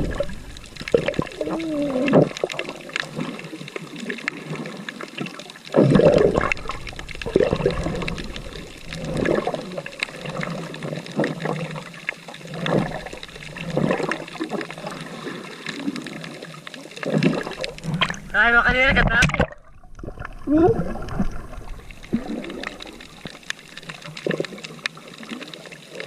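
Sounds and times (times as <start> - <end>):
sea water sloshing and gurgling: 0.0 - 26.0.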